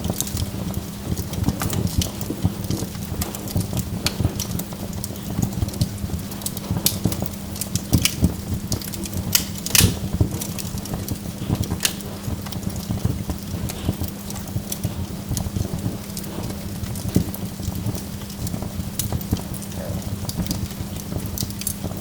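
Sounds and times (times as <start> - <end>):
burning logs crackling: 0.0 - 22.0
low rumble of fire: 0.0 - 22.0.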